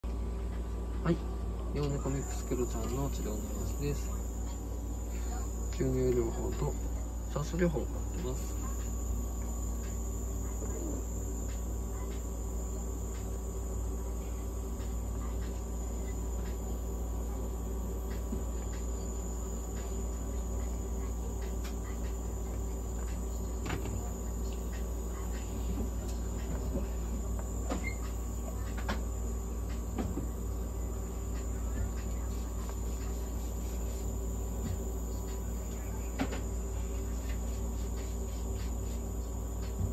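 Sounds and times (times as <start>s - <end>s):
equipment low hum: 0.0s - 39.9s
high-pitched whine: 0.5s - 39.9s.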